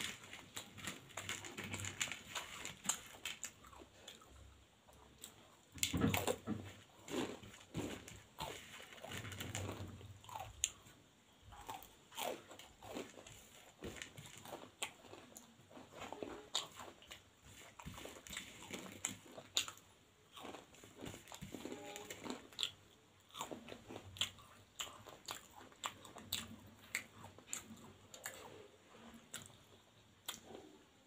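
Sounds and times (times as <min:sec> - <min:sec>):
crunchy chewing of snack: 0:00.0 - 0:30.8.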